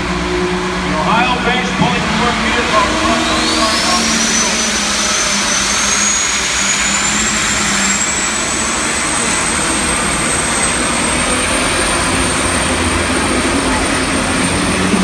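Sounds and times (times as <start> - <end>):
diesel truck engine under load: 0.0 - 15.0
turbo whine: 0.0 - 15.0.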